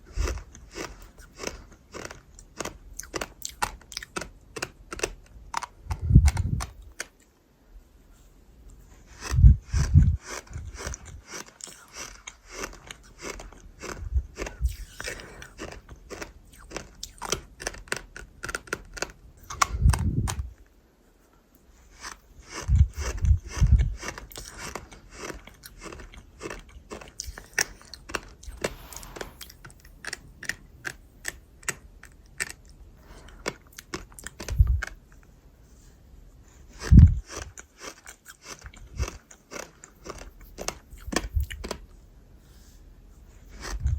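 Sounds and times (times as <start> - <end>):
chewing crunchy food: 0.0 - 7.3, 8.7 - 20.6, 21.7 - 35.9, 36.5 - 42.0, 43.3 - 43.9.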